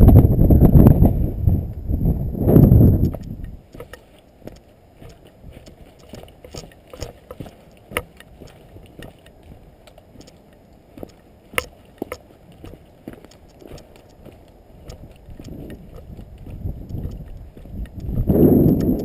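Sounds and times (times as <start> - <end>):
footsteps: 3.0 - 19.0
gear rustling: 3.0 - 19.0.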